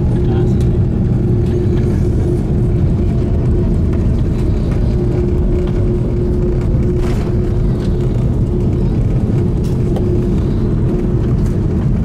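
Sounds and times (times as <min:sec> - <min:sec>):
airliner cabin engine rumble: 0:00.0 - 0:12.0
constant hum: 0:00.0 - 0:12.0.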